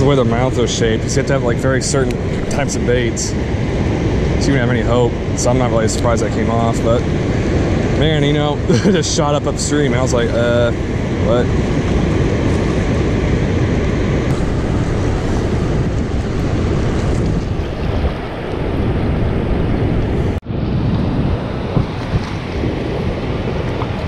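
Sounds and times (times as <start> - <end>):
water rushing from spillway: 0.0 - 19.4
churning river: 0.0 - 24.0
wind buffeting microphone: 0.0 - 24.0.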